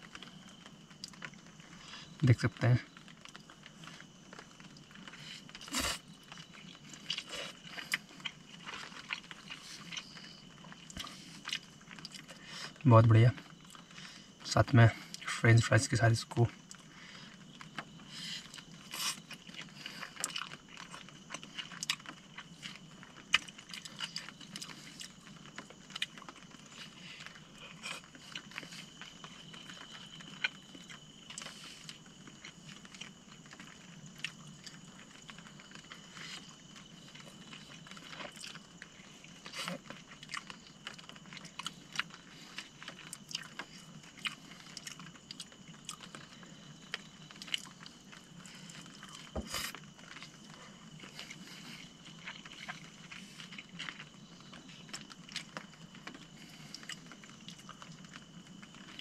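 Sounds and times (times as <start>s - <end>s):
person chewing noodles: 0.0s - 2.2s, 2.9s - 12.8s, 13.4s - 15.3s, 16.5s - 59.0s
faint steady hiss: 0.0s - 59.0s.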